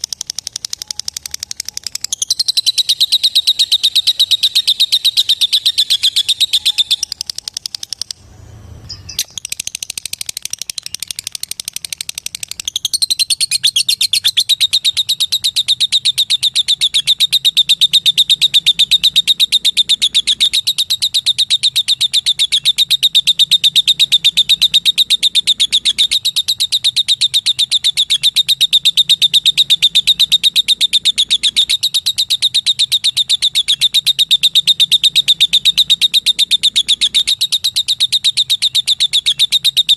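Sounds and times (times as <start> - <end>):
lovebird rapid high chirps: 0.0 - 39.9.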